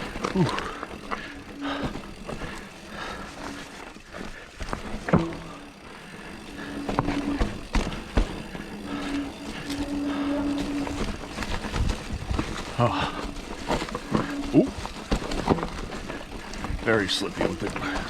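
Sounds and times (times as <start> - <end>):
bike knocks and rattles: 0.0 - 18.0
bike tyres rolling over leaves: 0.0 - 18.0
steady buzz from bike: 0.0 - 18.0.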